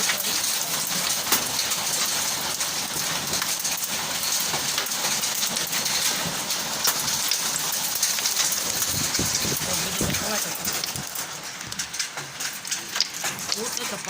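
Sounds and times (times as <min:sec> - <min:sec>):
heavy rain on hard surface: 0:00.0 - 0:14.0.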